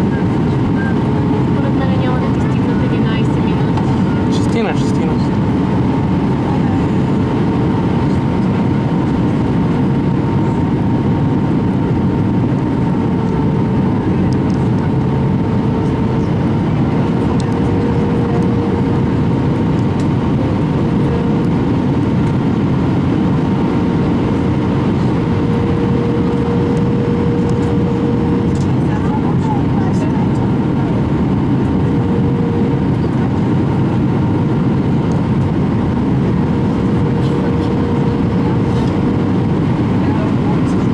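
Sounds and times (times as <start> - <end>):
airliner cabin roar: 0.0 - 40.9
faint hum: 0.0 - 40.9.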